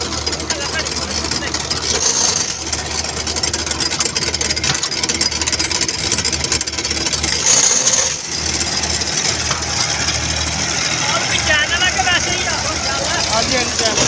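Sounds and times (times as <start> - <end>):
chain and rollers rattling: 0.0 - 14.0
high-pitched rush: 0.0 - 14.0
machine engine knocking: 0.0 - 14.0.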